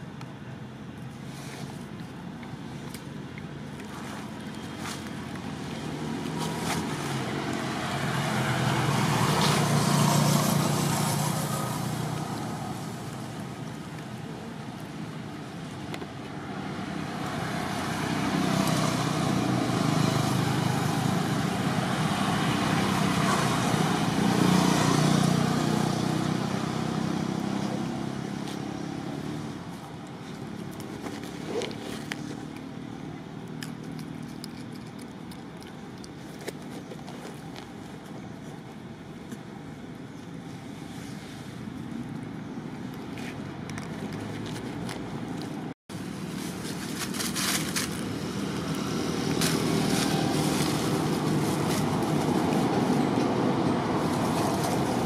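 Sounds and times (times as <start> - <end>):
vehicles passing by: 0.0 - 55.0.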